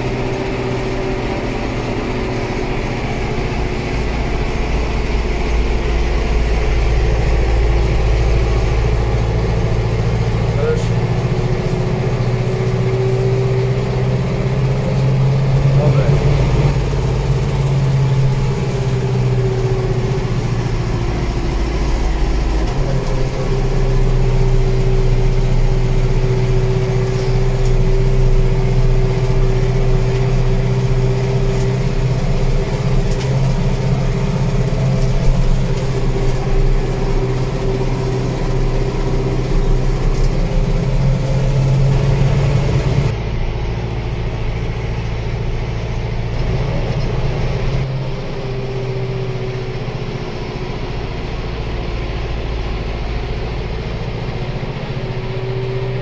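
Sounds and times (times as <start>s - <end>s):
steady whine: 0.0s - 56.0s
tractor diesel engine under load: 0.0s - 56.0s.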